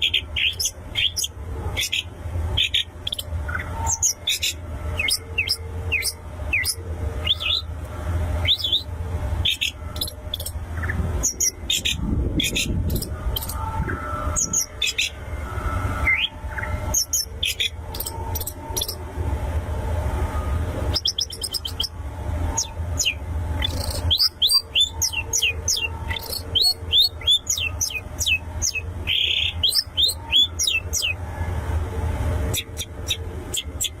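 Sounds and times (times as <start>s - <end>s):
bird singing chirps and trills: 0.0s - 7.8s, 8.4s - 19.0s, 20.9s - 31.3s, 32.5s - 34.0s
steady low hum: 0.0s - 34.0s.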